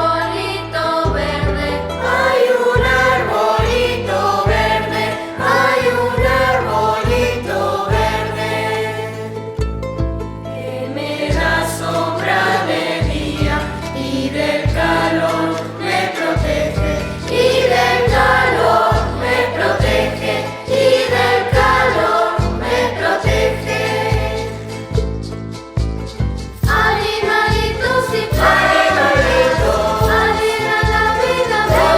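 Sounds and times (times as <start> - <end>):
children's choir singing: 0.0 - 9.4, 10.5 - 25.0, 26.6 - 31.9
bass line of repeated notes: 0.0 - 31.9
instrumental accompaniment: 0.0 - 31.9.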